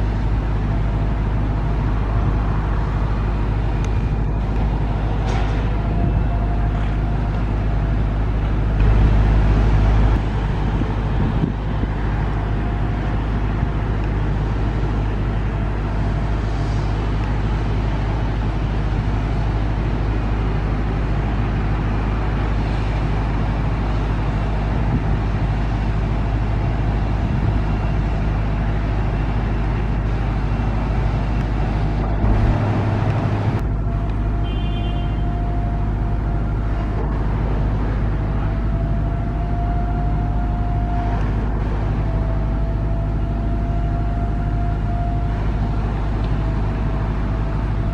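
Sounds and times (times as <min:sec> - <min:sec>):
faint engine whine: 0:00.0 - 0:47.9
jet engines rumbling: 0:00.0 - 0:47.9.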